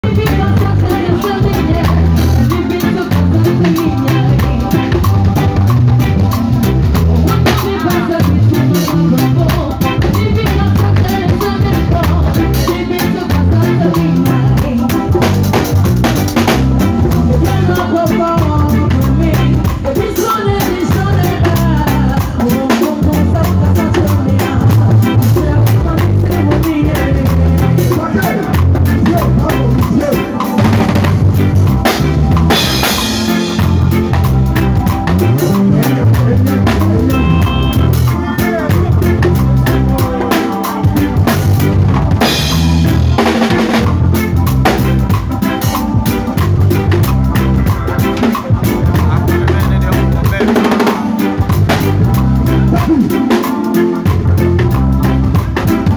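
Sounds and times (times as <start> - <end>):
drum kit: 0.0 - 55.9
live band playing upbeat groove: 0.0 - 55.9
pulsing bass line: 0.0 - 55.9.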